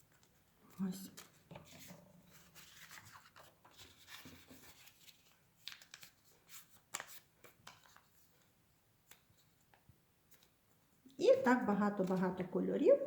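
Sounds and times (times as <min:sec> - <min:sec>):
paper rustling and crinkling: 0:00.0 - 0:10.7, 0:11.3 - 0:12.5.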